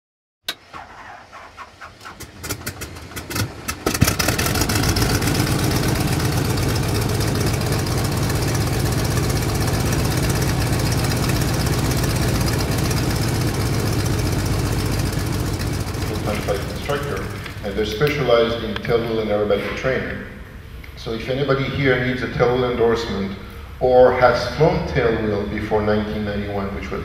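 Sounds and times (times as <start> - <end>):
piston aircraft engine starting: 0.5 - 27.0.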